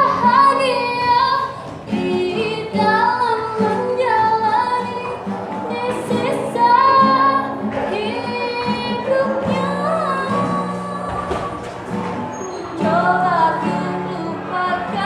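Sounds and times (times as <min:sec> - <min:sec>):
female voices singing slow melody: 0:00.0 - 0:11.8, 0:12.4 - 0:15.0.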